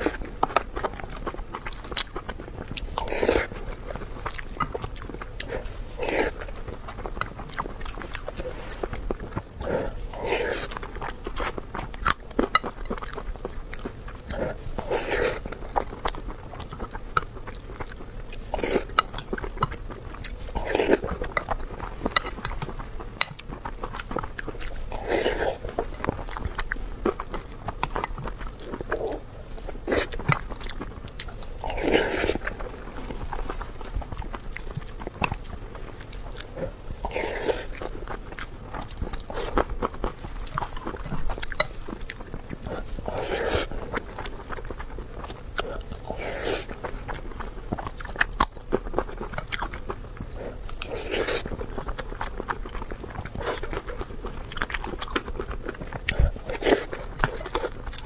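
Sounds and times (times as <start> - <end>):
wet chewing mouth sounds: 0.0 - 58.0.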